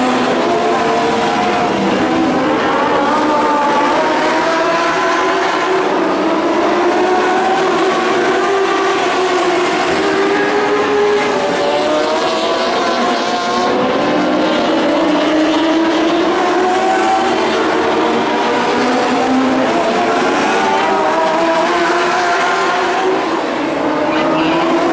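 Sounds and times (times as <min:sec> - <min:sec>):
race car engines running hard: 0:00.0 - 0:24.9.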